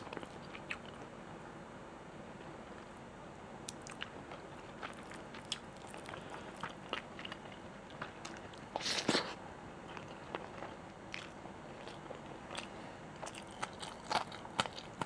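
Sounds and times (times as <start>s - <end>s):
chewing food: 0.0s - 1.1s, 3.7s - 15.0s.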